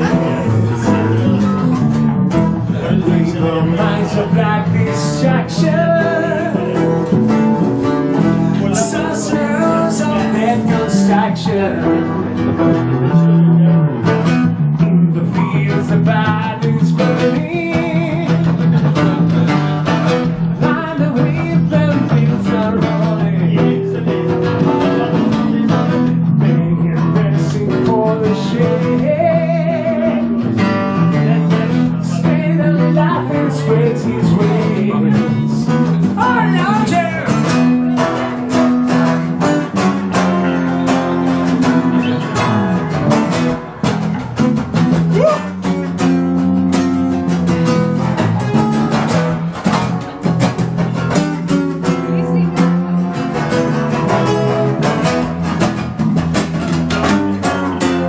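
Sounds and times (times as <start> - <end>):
acoustic guitars strumming rock: 0.0 - 58.0.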